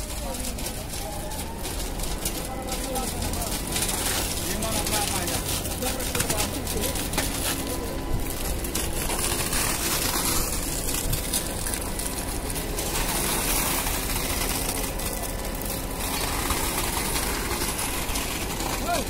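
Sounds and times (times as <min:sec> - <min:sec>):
concrete pump humming: 0:00.0 - 0:19.0.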